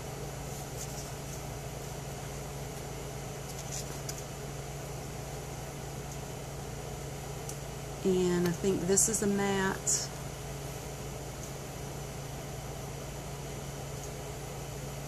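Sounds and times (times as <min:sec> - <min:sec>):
stove fan humming: 0:00.0 - 0:15.0.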